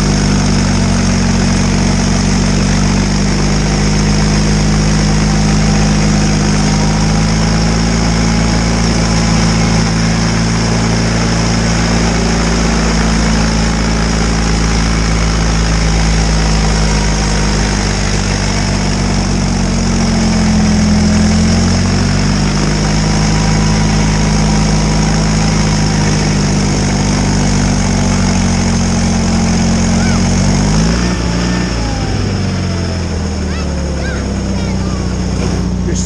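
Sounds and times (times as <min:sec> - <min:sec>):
garden tractor engine running: 0:00.0 - 0:36.0.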